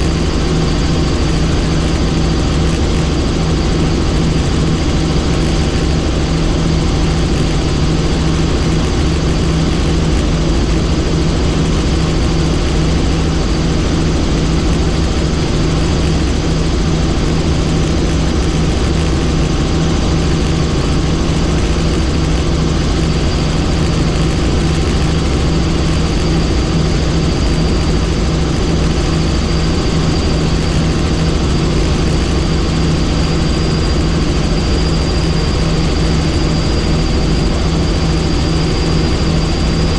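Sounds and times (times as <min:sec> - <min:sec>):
helicopter engine and rotor: 0:00.0 - 0:39.9
high-pitched whine: 0:00.0 - 0:39.9.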